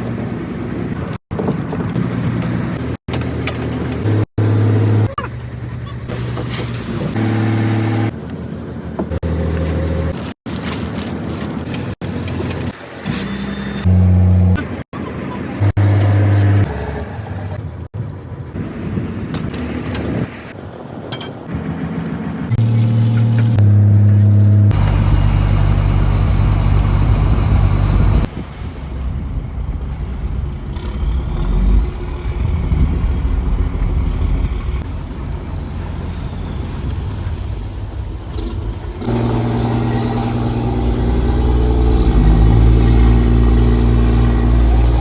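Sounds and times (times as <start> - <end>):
diesel engine droning: 2.0 - 10.4, 11.6 - 20.9, 21.5 - 45.0.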